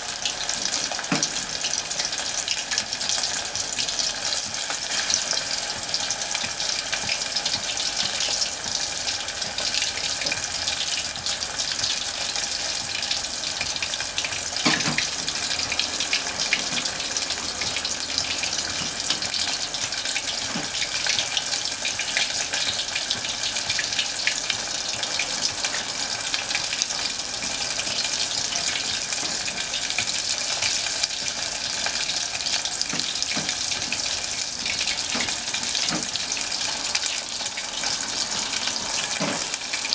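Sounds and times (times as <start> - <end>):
meat deep-frying in oil: 0.0 - 39.9.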